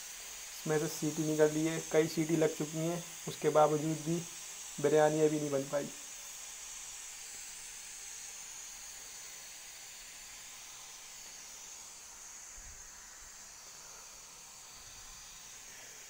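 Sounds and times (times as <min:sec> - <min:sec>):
pressure cooker hissing: 0:00.0 - 0:16.0.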